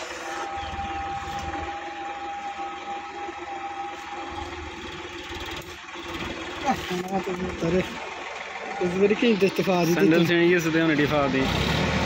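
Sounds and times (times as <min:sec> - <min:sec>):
steady high whine: 0:00.0 - 0:11.2
tractor diesel engine running: 0:00.0 - 0:12.0.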